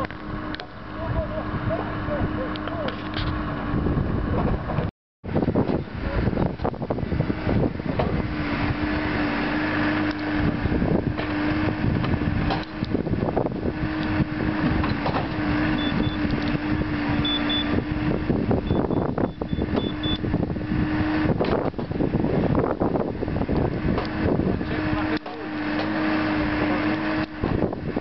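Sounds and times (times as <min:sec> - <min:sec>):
diesel engine running: 0:00.0 - 0:28.0
steady whine: 0:00.0 - 0:28.0.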